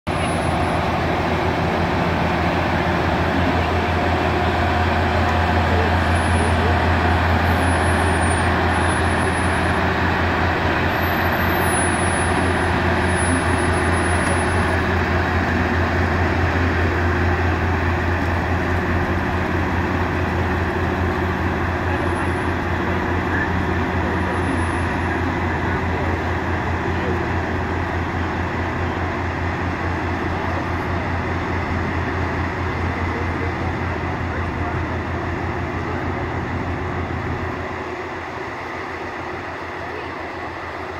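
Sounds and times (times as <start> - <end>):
diesel locomotive engine drone: 0.0 - 40.9.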